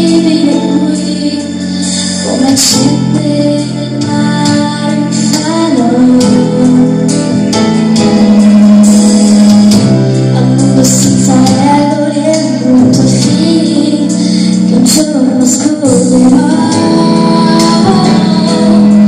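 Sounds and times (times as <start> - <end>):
instrumental accompaniment: 0.0 - 19.0
woman singing pop ballad: 0.0 - 19.0.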